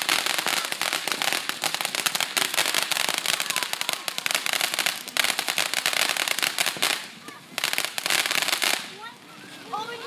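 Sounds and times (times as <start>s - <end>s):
firework crackling: 0.0s - 9.2s.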